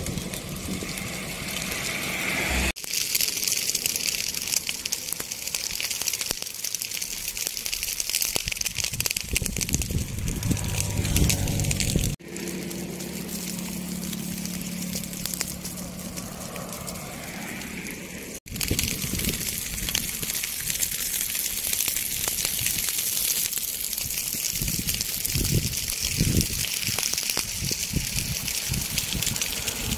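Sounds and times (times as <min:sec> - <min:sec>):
grass fire crackling: 0:00.0 - 0:29.9.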